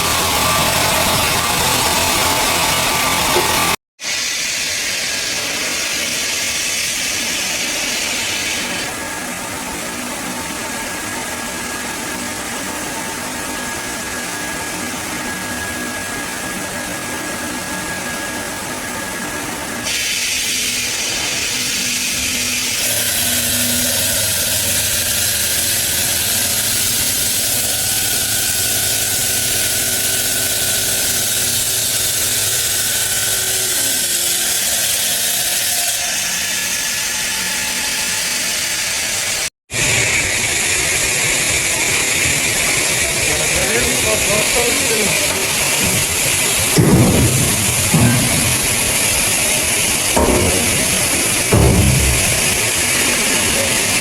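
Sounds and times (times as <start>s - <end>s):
stone-processing machinery running: 0.0s - 54.0s.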